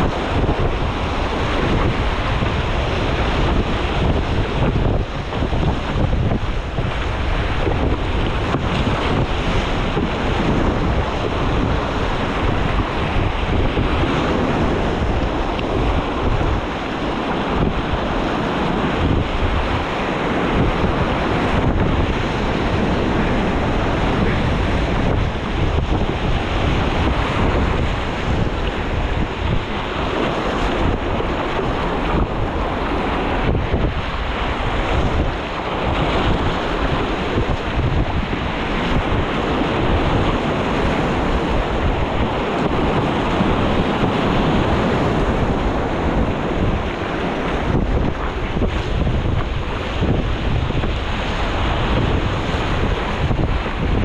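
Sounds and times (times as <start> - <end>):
whitewater rushing and splashing: 0.0 - 54.0
wind buffeting microphone: 0.0 - 54.0.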